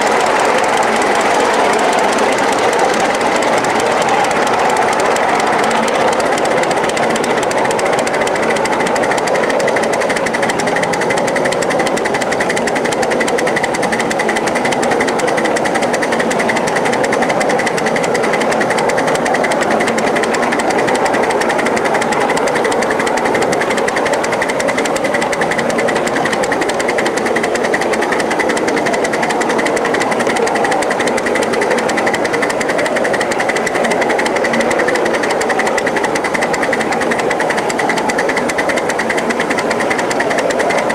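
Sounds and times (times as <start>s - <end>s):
model steam locomotive clatter: 0.0s - 40.9s.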